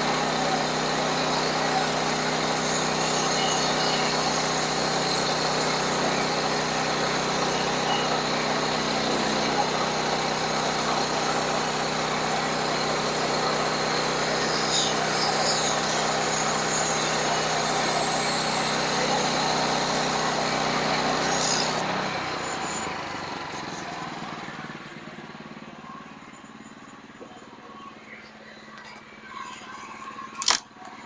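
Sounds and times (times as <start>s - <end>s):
small petrol engine running: 0.0s - 31.0s.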